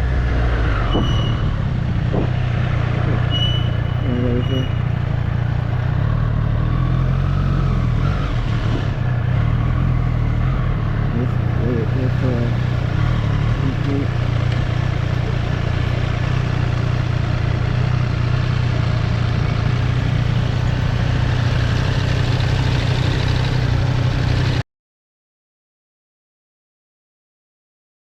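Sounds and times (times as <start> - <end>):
motorcycle engine running: 0.9 - 24.6.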